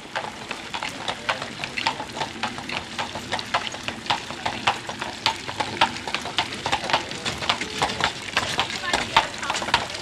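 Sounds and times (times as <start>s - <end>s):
horse hooves clip-clopping on road: 0.0s - 10.0s.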